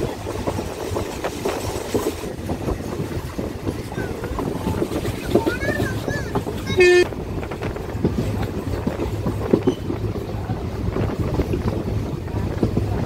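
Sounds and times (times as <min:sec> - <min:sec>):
knocks and rattles: 0:00.0 - 0:13.0
vehicle interior rumble: 0:00.0 - 0:13.0.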